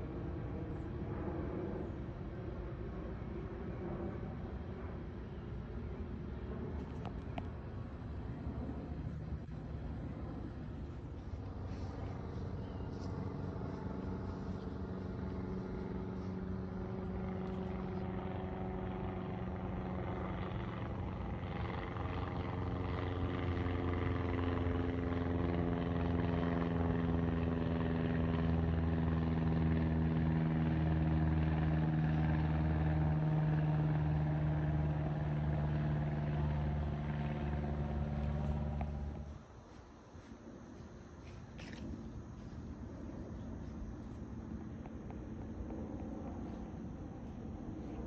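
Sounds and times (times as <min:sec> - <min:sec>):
light plane passing overhead: 0:00.0 - 0:48.0.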